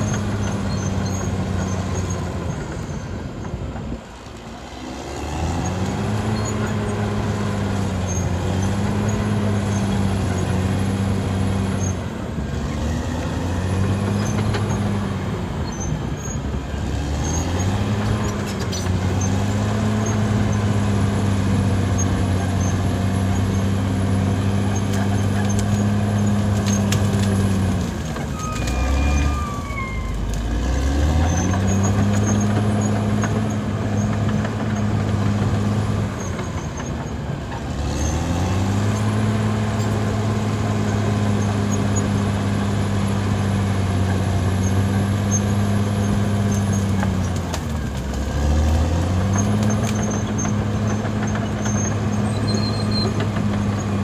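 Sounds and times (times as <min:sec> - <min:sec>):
falling squeal: 0:00.0 - 0:03.6, 0:05.1 - 0:42.5, 0:49.2 - 0:54.0
bulldozer diesel engine: 0:00.0 - 0:54.0.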